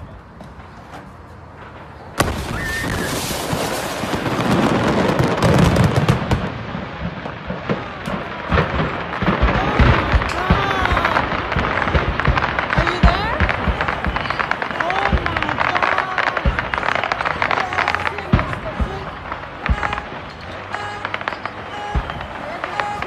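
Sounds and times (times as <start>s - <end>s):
fireworks exploding: 0.0s - 23.0s
crackling and booming detonations: 1.6s - 23.0s.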